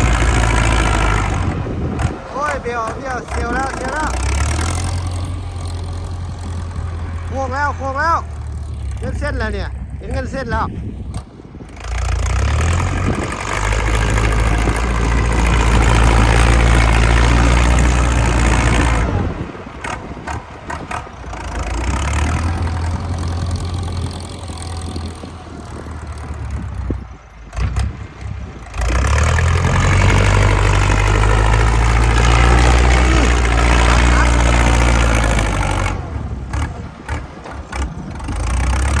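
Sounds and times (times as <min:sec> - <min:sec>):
tractor diesel engine under load: 0:00.0 - 0:39.0.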